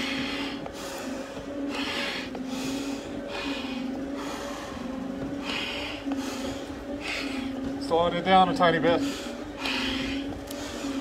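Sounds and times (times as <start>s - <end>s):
heavy breathing through mask regulator: 0.0s - 7.8s, 8.8s - 11.0s
low machine hum: 0.0s - 11.0s.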